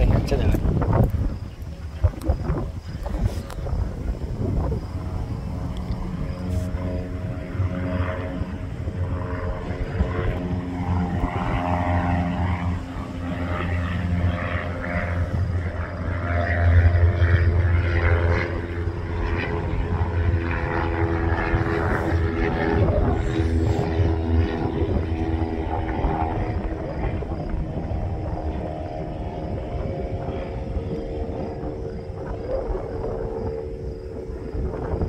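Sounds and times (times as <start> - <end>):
propeller plane engine drone: 0.0 - 35.0.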